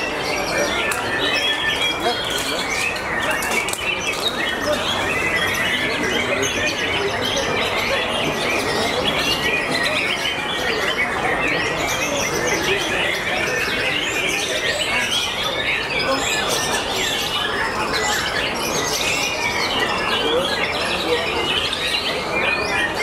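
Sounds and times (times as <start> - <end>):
birds singing: 0.0 - 23.0.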